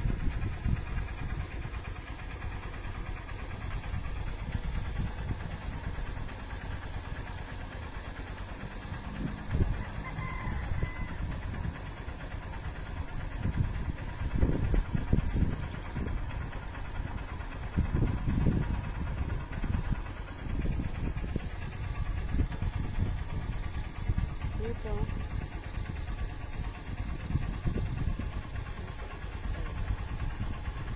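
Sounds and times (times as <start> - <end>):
wind buffeting microphone: 0.0 - 6.4, 8.9 - 30.9.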